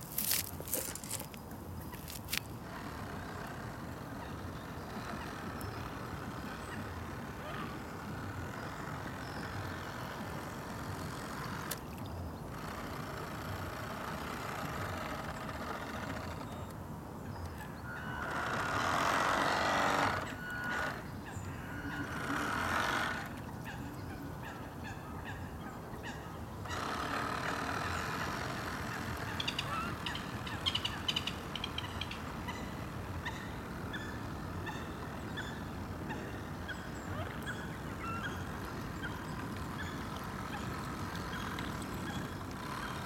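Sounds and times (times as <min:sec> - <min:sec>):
model speedboat motor: 0:00.1 - 0:24.7, 0:26.5 - 0:43.0.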